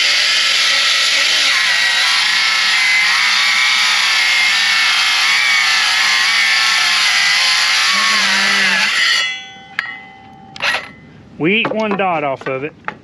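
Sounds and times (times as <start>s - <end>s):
circular saw cutting board: 0.0s - 11.0s.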